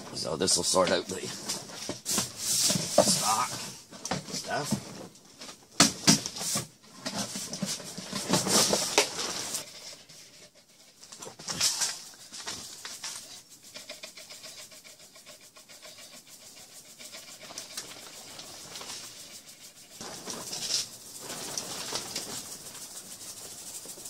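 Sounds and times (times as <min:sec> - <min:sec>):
dry herb rubbed on a screen: 0:00.2 - 0:03.8, 0:07.2 - 0:24.0.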